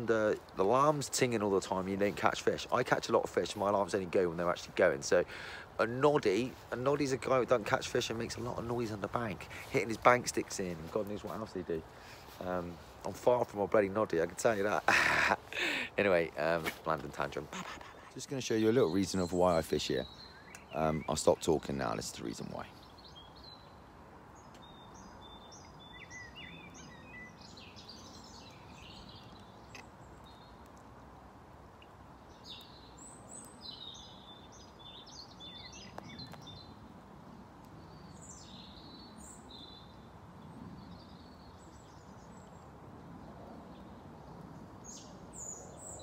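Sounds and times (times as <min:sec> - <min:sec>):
faint outdoor background hiss: 0:00.0 - 0:46.0
songbirds chirping: 0:00.0 - 0:46.0.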